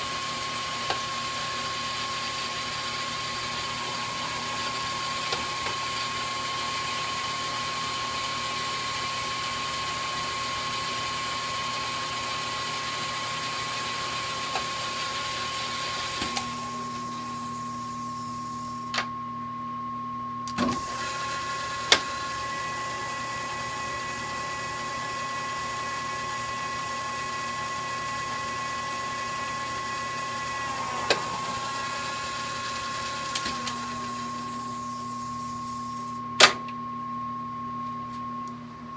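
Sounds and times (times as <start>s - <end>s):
lathe motor whine: 0.0s - 19.1s, 20.6s - 36.4s.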